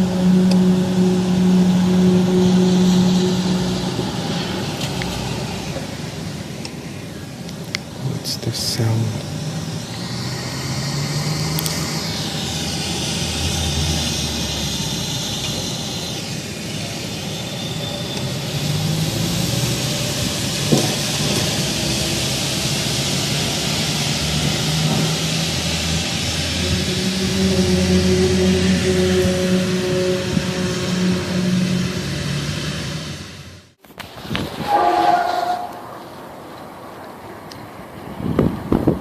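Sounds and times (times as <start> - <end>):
high whine sliding downward: 0.0 - 39.0
loud humming drone: 0.0 - 39.0.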